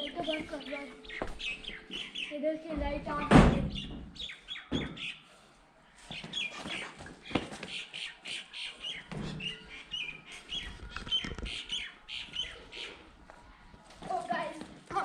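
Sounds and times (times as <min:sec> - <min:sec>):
birds chirping and squawking: 0:00.0 - 0:05.4, 0:06.0 - 0:13.8.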